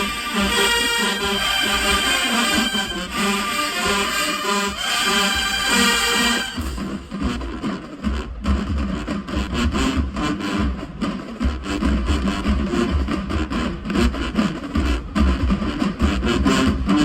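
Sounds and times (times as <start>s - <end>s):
snare drum: 0.0s - 17.0s.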